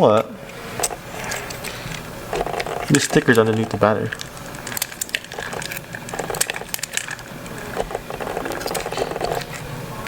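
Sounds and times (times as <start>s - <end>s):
tool clicking and tapping: 0.2s - 9.6s
scraping and peeling: 0.5s - 9.8s.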